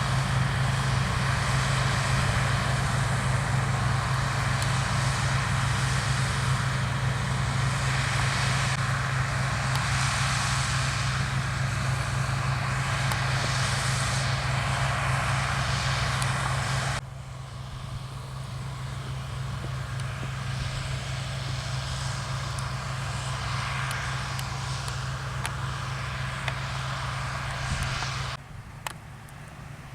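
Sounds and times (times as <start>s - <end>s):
diesel farm machinery running: 0.0s - 29.9s.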